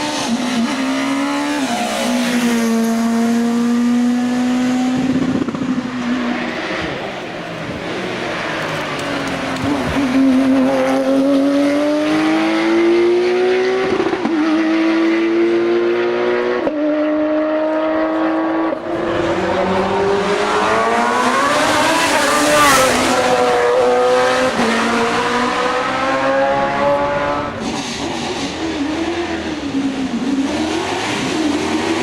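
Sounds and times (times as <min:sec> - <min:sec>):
racing car engine accelerating: 0:00.0 - 0:32.0.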